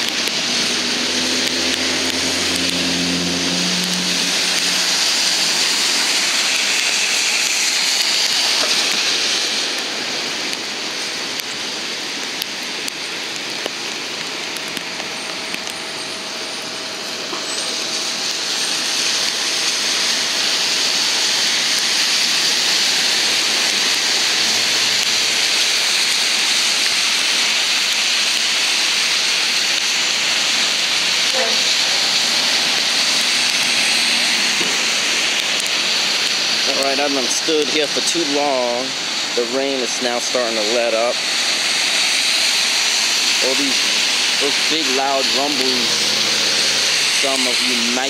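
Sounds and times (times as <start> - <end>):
heavy rain pouring: 0.0 - 48.0.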